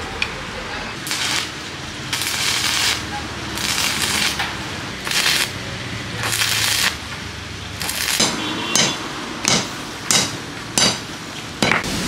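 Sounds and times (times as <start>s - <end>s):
welding arc crackling and hissing: 1.0s - 12.0s.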